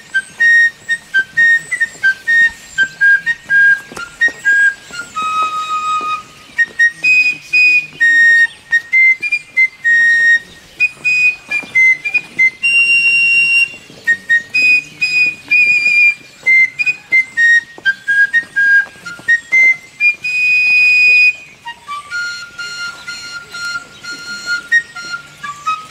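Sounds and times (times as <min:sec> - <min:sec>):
fifes playing march melody: 0:00.0 - 0:25.9.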